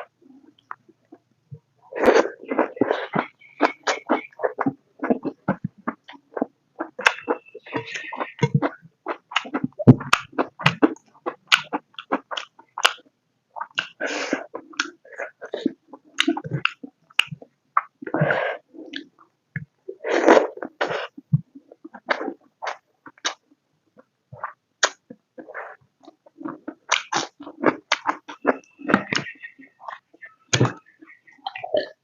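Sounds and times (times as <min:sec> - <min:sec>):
wet chewing and lip smacks: 0:02.4 - 0:18.0, 0:18.9 - 0:19.3, 0:20.6 - 0:32.0.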